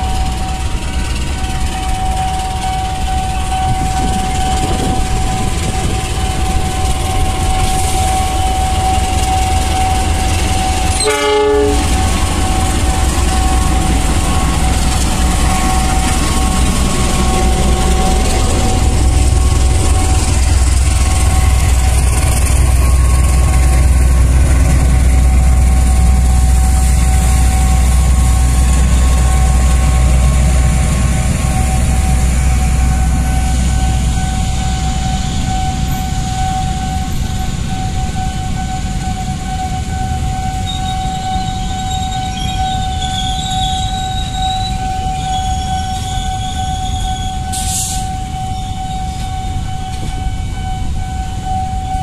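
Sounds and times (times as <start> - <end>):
steady high whine: 0.0 - 42.1
locomotive engine rumble: 0.0 - 52.0
train coaches rolling over rails: 0.0 - 52.0.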